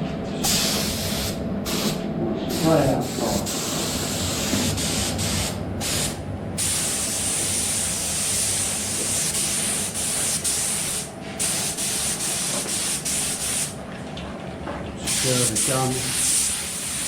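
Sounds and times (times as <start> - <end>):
paint spray gun hissing: 0.5 - 13.7, 15.1 - 17.0.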